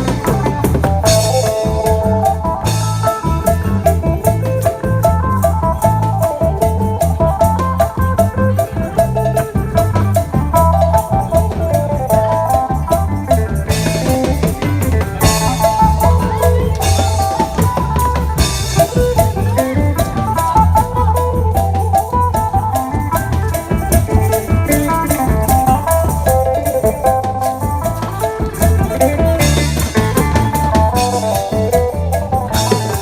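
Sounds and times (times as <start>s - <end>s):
drum kit and bass: 0.0s - 33.0s.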